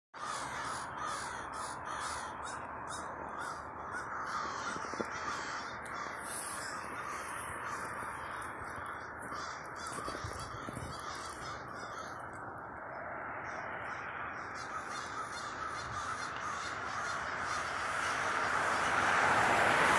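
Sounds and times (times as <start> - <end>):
crows cawing: 0.2 - 19.9.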